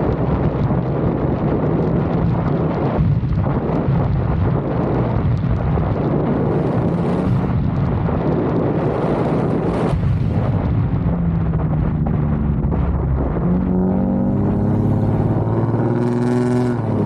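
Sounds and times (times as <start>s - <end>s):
car engine running: 0.0s - 17.0s
road and wind noise: 0.0s - 17.0s.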